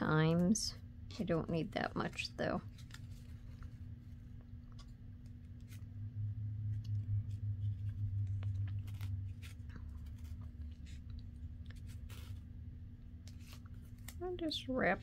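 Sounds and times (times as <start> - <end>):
steady low hum: 0.0 - 15.0
twine rustling: 1.5 - 15.0
low rumble of handling: 1.9 - 15.0.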